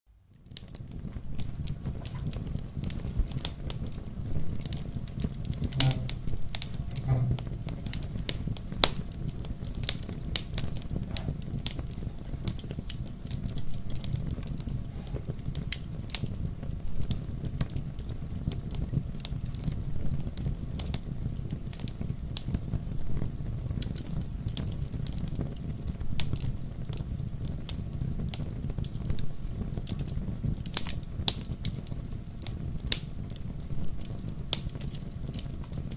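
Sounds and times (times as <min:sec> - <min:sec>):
low rumble of flames: 0:00.3 - 0:35.9
wood fire crackling and popping: 0:00.3 - 0:35.9.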